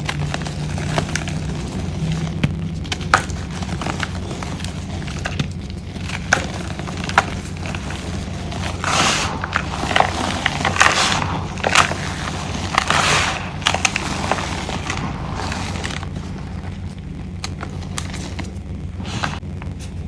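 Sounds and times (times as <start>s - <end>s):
chalk blocks cracking and crunching: 0.0s - 20.0s
steady low hum: 0.0s - 20.0s.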